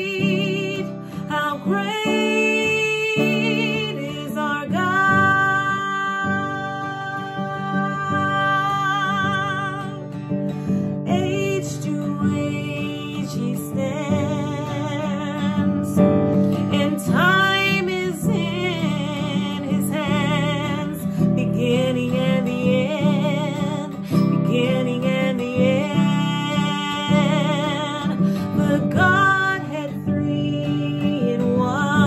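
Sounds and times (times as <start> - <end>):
strummed acoustic guitar: 0.0 - 32.0
woman singing with vibrato: 0.0 - 32.0.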